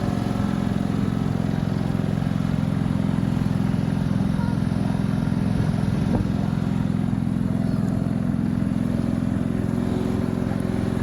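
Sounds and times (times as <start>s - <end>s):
low-pitched engine running: 0.0s - 11.0s.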